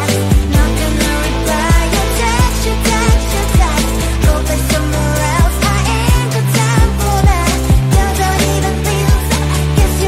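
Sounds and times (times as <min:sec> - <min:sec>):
pop song with singing voice: 0:00.0 - 0:10.0.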